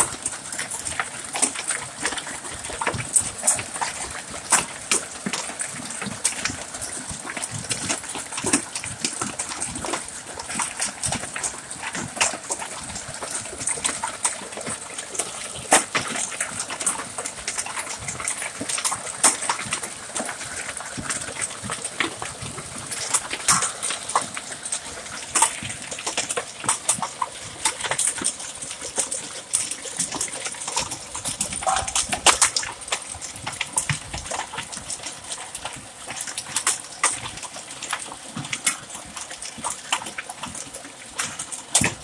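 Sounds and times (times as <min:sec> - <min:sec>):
hailstones striking hard surfaces: 0:00.0 - 0:42.0.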